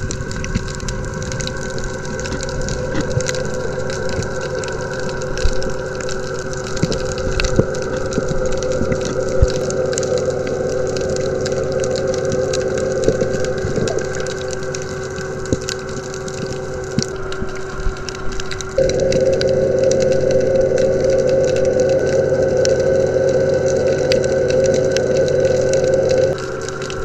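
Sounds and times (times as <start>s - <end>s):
underwater motor drone: 0.0s - 27.0s.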